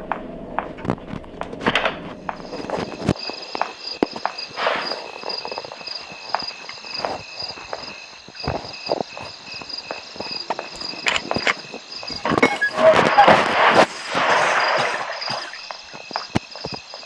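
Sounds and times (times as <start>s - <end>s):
footsteps: 0.0s - 17.0s
insects trilling: 0.1s - 17.0s.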